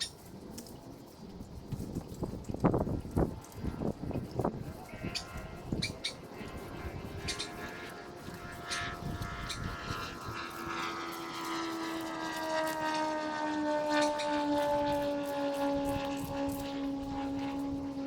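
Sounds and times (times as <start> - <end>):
mechanical drone: 0.0 - 18.0.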